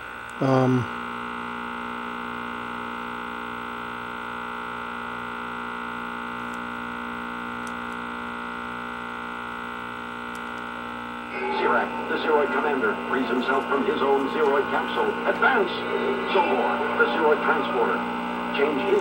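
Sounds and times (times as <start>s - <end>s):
television speaker buzz: 0.0s - 19.0s.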